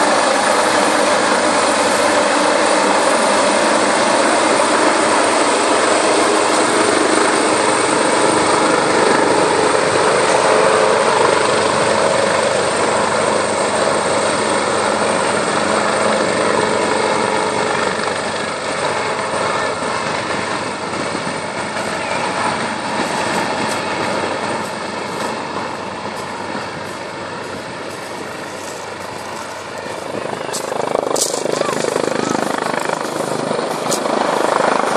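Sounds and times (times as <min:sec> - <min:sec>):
helicopter hovering: 0:00.0 - 0:34.9.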